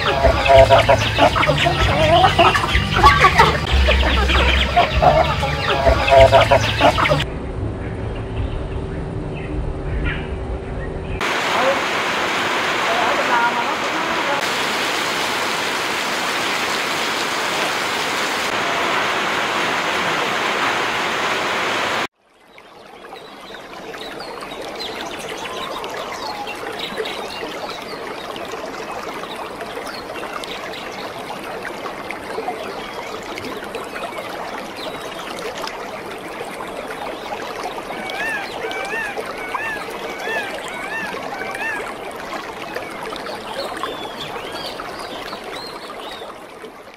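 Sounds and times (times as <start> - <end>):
loud rushing water: 0.0 - 7.3, 11.2 - 22.1, 22.8 - 46.9
quiet flowing water: 0.0 - 7.3, 11.1 - 46.9.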